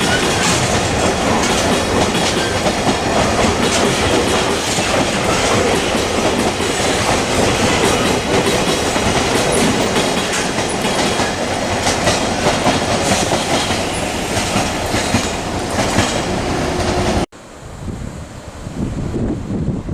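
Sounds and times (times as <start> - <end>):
train wheels clattering: 0.0 - 17.3.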